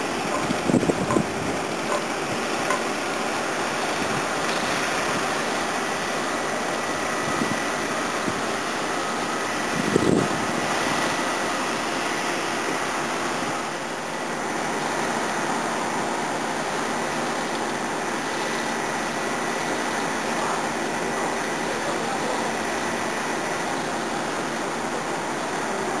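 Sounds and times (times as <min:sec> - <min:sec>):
construction activity: 0:00.0 - 0:26.0.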